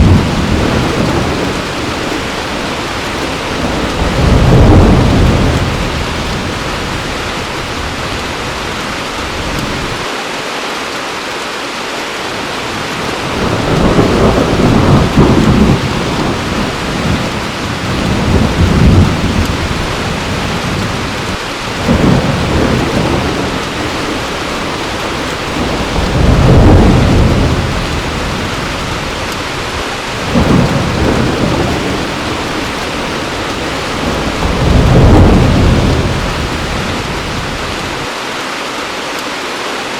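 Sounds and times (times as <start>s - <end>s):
thunder rolling: 0.0s - 10.0s, 12.8s - 38.1s
heavy rain: 0.0s - 39.9s.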